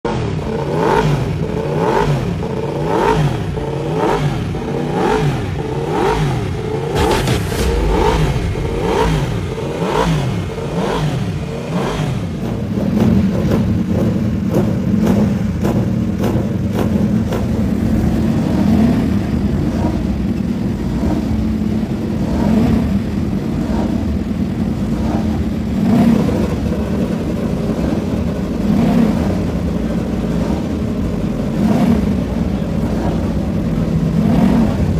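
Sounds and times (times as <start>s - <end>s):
motorcycle engines revving: 0.1s - 34.9s.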